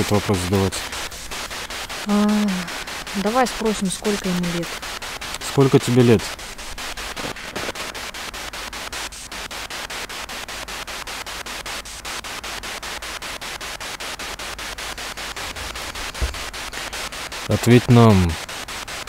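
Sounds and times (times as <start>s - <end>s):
pulsing radio scanning static: 0.0s - 19.0s.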